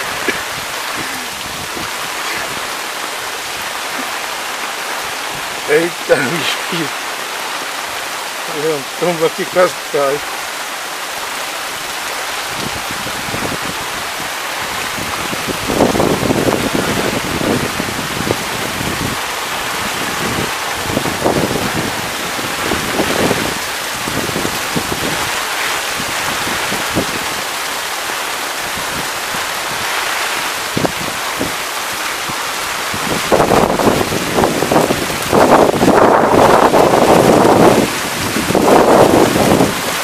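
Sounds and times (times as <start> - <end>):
floodwater running: 0.0 - 40.0
heavy rain pouring: 0.0 - 40.0
wind gusts hitting the microphone: 0.0 - 40.0.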